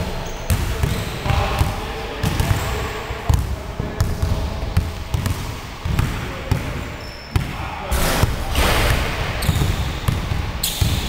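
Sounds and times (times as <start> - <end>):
basketballs bouncing on wooden floor: 0.2 - 11.0.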